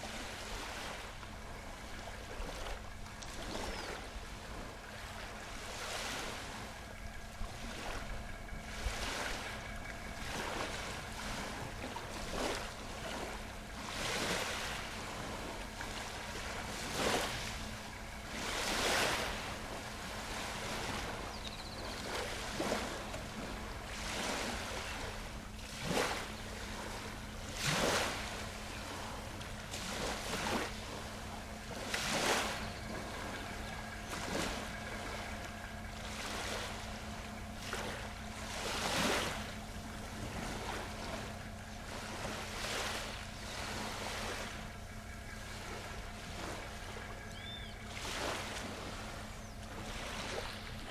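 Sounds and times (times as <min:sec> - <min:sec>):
small sea waves splashing: 0:00.0 - 0:50.9
steady low hum: 0:00.0 - 0:50.9.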